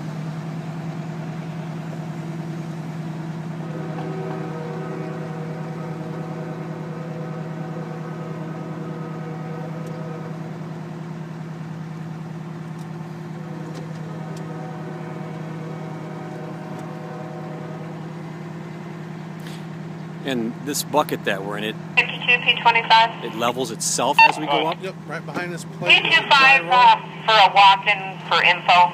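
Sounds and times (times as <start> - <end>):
hydraulics droning: 0.0 - 28.9.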